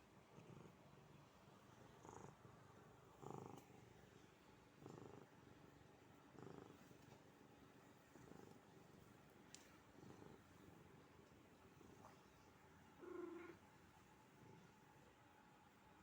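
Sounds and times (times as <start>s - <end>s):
cat purring: 0.0s - 15.2s.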